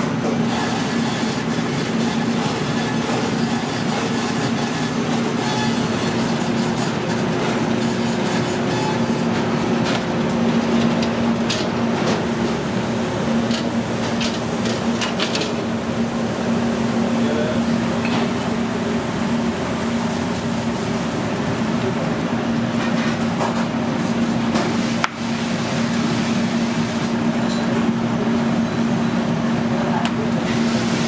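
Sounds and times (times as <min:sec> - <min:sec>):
kitchen machinery hum and whoosh: 0:00.0 - 0:31.0.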